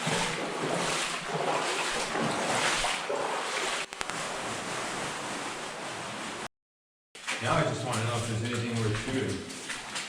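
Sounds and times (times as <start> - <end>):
feet sloshing through shallow water: 0.0 - 6.4, 7.2 - 10.0.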